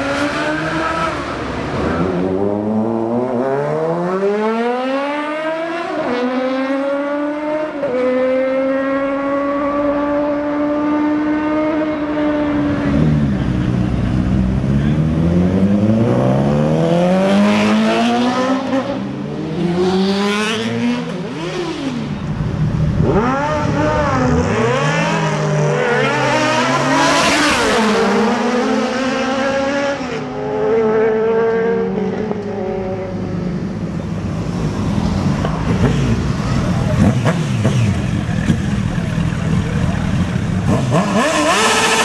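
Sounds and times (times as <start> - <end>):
motorcycle revving hard: 0.0 - 33.1, 35.7 - 42.0
motorcycle engines accelerating: 0.0 - 42.0.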